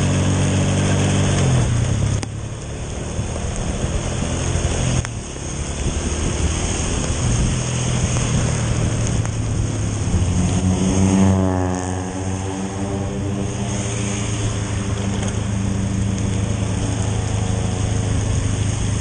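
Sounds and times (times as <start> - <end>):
scooter engine cruising: 0.0 - 19.0
tyres hissing on wet road: 0.0 - 19.0
vehicle passing: 0.0 - 19.0.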